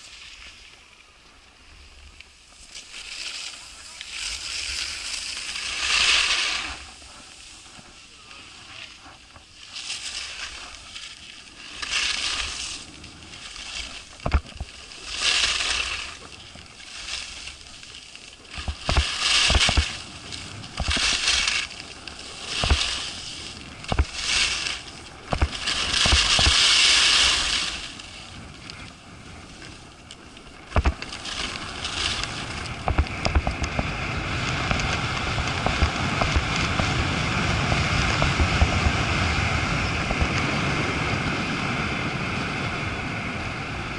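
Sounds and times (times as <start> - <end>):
skis swishing on snow: 0.0 - 43.9
wind over microphone: 1.6 - 43.9.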